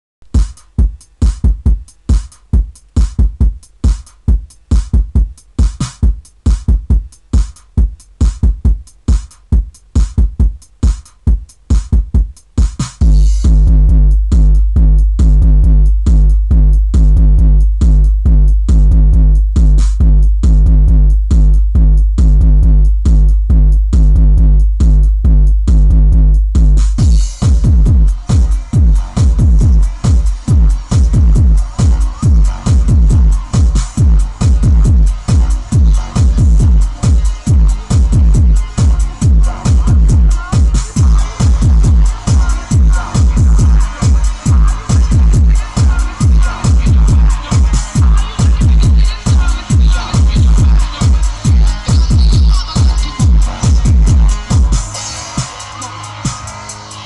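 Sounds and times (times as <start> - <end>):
deep bass line: 0.2 - 57.0
drum machine kick beat: 0.2 - 57.0
techno music on car stereo: 0.2 - 57.0.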